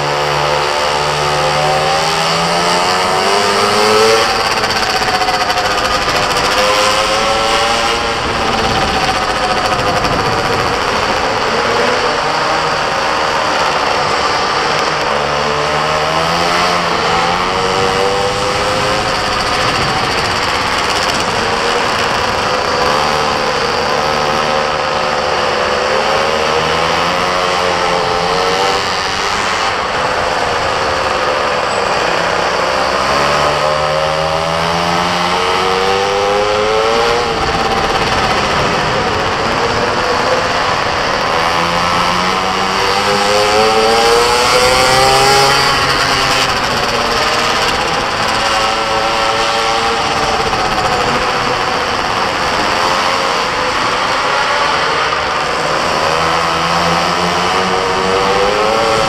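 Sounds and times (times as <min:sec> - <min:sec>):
mini moto engine revving: 0:00.0 - 0:59.0
steady rush of noise: 0:00.0 - 0:59.0.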